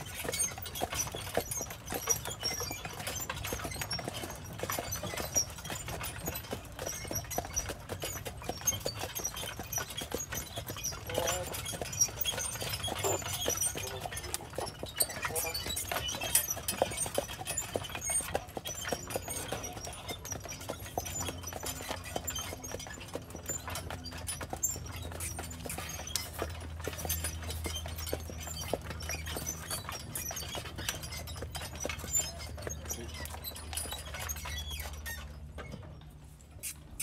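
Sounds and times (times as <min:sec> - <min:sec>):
horse hooves clip-clopping on dirt: 0:00.0 - 0:37.0.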